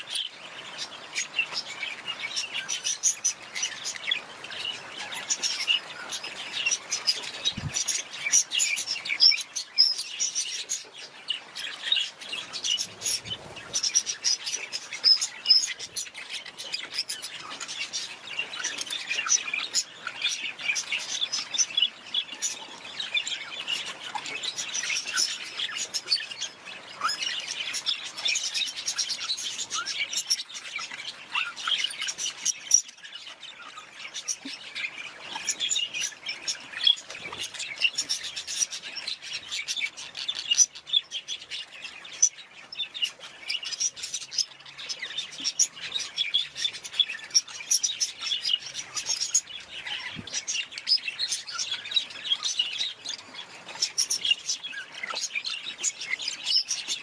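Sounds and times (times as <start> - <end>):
budgerigars chirping and chattering: 0.0 - 57.0.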